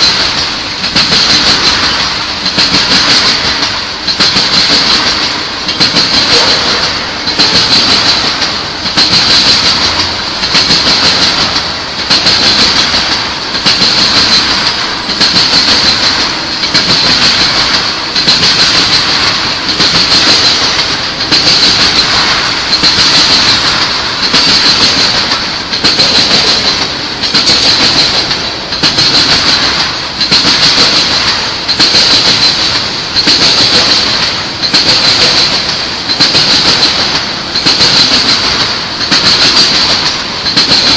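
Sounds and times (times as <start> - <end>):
rolling wheels hiss: 0.0 - 40.9
train wheels clacking on joints: 0.0 - 40.9.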